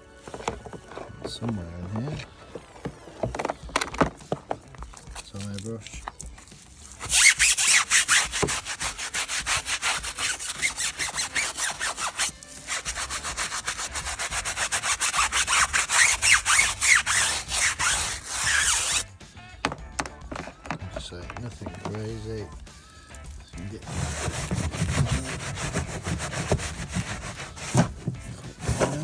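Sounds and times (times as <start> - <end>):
brush scrubbing wet wheel: 0.2 - 19.0, 23.6 - 29.0.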